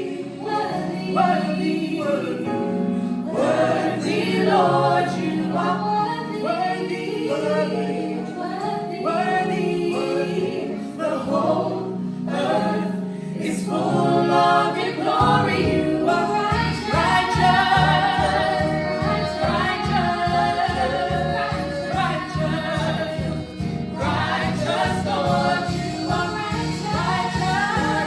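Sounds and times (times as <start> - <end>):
gospel choir singing: 0.0 - 28.0.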